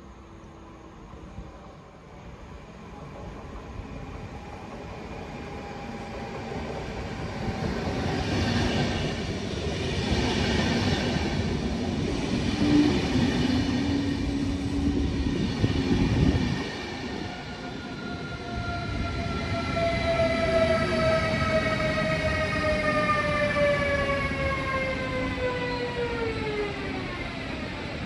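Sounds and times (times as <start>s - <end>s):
train coaches running past: 0.0s - 28.0s.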